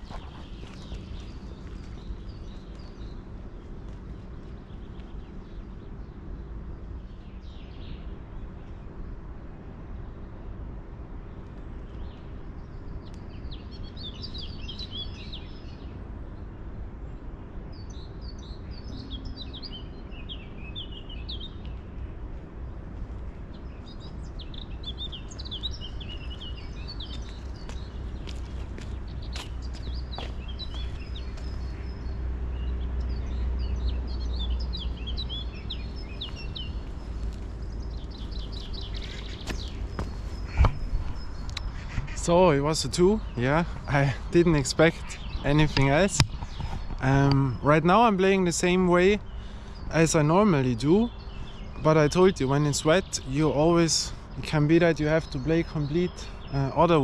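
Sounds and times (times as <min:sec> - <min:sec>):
songbird chirping: 0:00.0 - 0:09.1, 0:11.2 - 0:57.0
steady low hum: 0:00.0 - 0:57.0.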